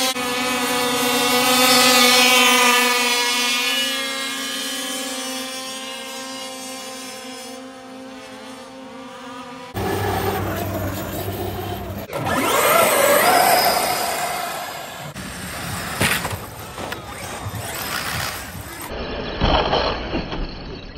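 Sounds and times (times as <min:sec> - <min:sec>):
rc trucks racing: 0:00.0 - 0:20.9.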